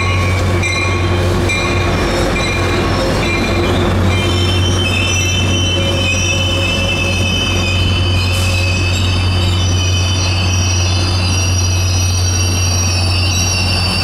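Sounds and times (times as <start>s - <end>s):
diesel locomotive drone: 0.0s - 14.0s
train wheels squealing: 0.0s - 14.0s.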